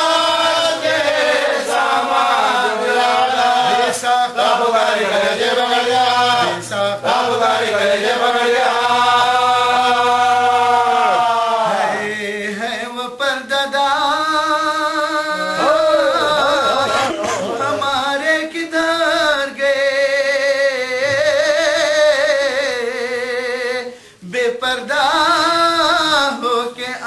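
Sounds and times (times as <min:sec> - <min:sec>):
man chanting: 0:02.0 - 0:27.0.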